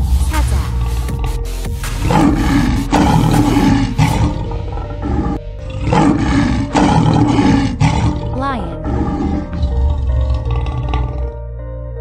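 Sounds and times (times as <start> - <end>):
background music: 0.0 - 12.0
lion roaring: 0.7 - 11.4.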